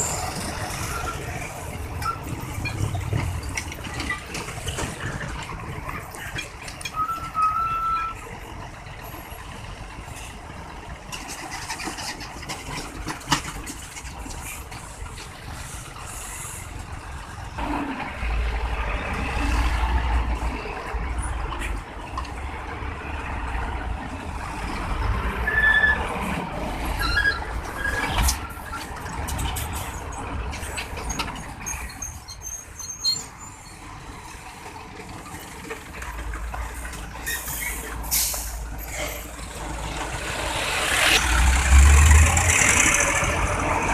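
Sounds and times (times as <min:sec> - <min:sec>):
heavy truck engine rumble: 0:00.0 - 0:43.9
road traffic: 0:00.0 - 0:43.9.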